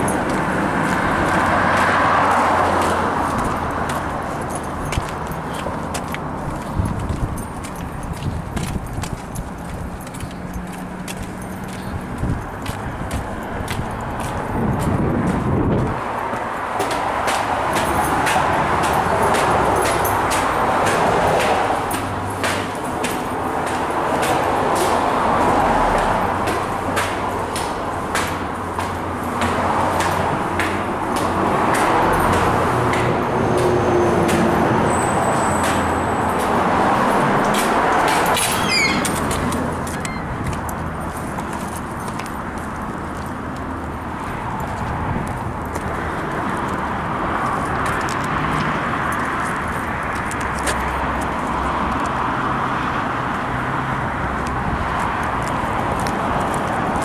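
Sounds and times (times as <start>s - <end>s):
footsteps on stairs: 0.0s - 34.6s, 35.4s - 52.1s
road traffic: 0.0s - 57.0s.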